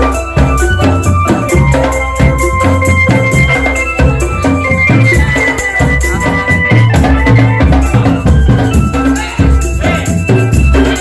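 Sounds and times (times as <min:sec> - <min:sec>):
bass drums beating: 0:00.0 - 0:11.0
held melodic line: 0:00.0 - 0:11.0
rattling percussion: 0:00.0 - 0:11.0.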